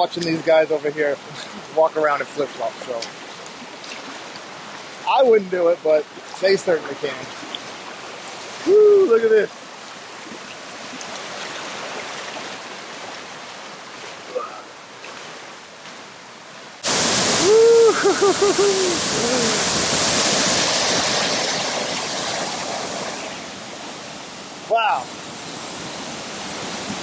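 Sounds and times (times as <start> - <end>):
flowing water rushing: 0.0 - 27.0.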